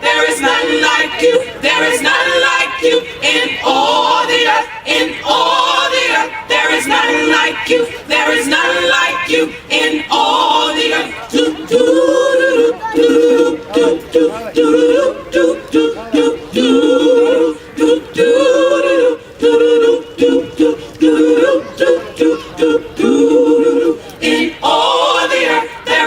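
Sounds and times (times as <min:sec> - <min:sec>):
gospel choir singing in harmony: 0:00.0 - 0:26.0.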